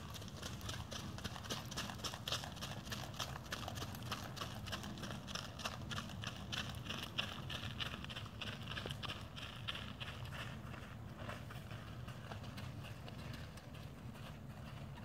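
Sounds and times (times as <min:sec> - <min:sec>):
hoofbeats on gravel: 0:00.0 - 0:15.0
low steady rumble: 0:00.0 - 0:15.0.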